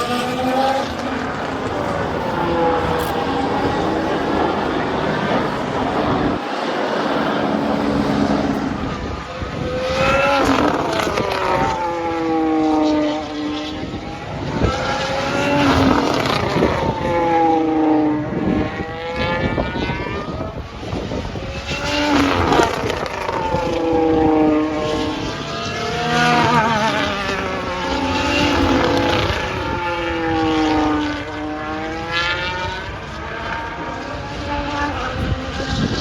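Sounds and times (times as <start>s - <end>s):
race car engines passing at speed: 0.0s - 36.0s.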